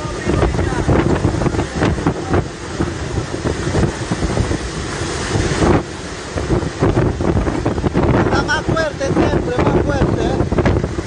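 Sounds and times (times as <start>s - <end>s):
surf surging over shore: 0.0s - 11.0s
wind buffeting microphone: 0.0s - 11.0s.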